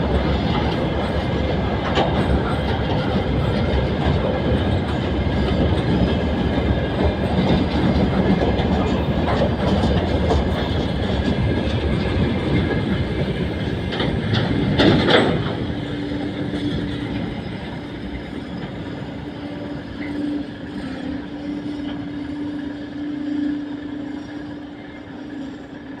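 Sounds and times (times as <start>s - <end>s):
train wheels clattering over rails: 0.0s - 26.0s.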